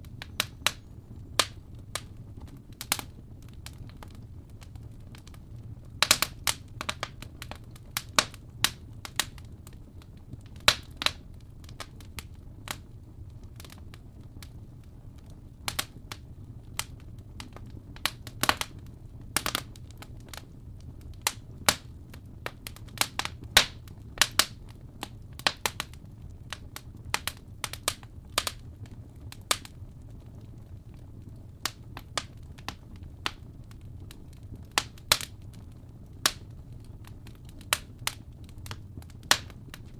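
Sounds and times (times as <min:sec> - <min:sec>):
fire crackling and popping: 0:00.0 - 0:39.9
low steady rumble: 0:00.0 - 0:39.9.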